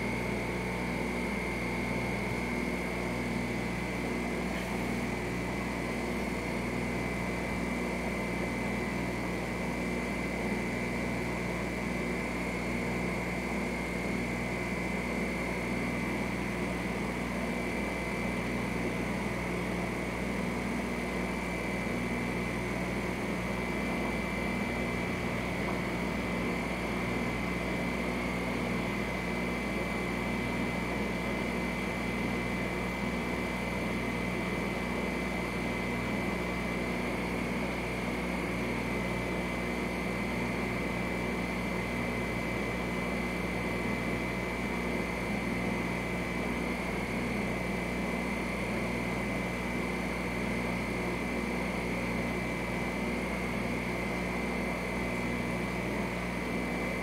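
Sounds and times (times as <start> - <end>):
mechanical hum with low tones: 0.0 - 57.0.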